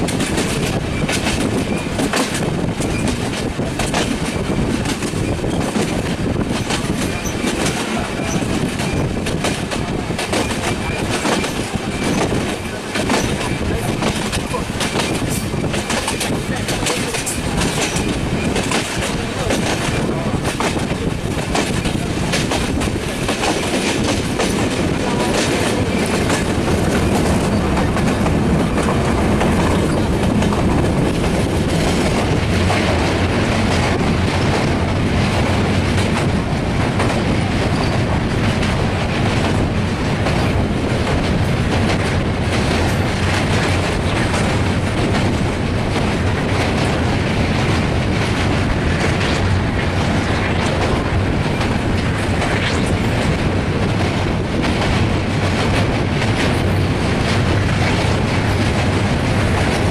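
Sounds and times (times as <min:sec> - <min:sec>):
train rumbling over steel bridge: 0:00.0 - 0:59.9
wheels clacking over rail joints: 0:00.0 - 0:59.9.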